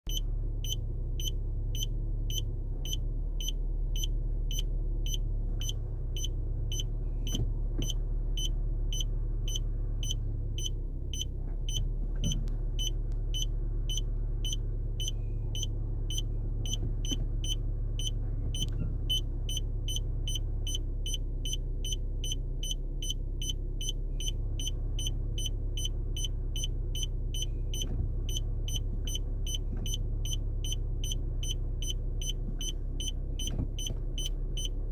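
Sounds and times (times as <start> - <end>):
low rumble: 0.1 - 34.9
parking sensor beeping: 0.1 - 34.9.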